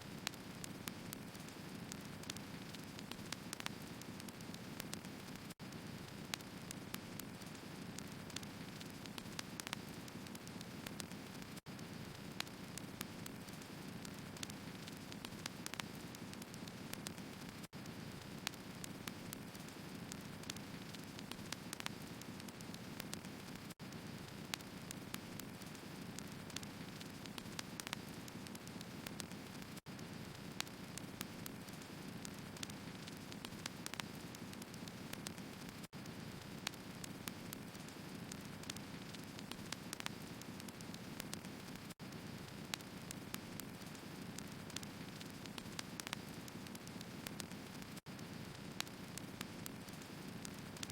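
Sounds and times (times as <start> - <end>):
firewood burning with crackles: 0.1 - 50.9.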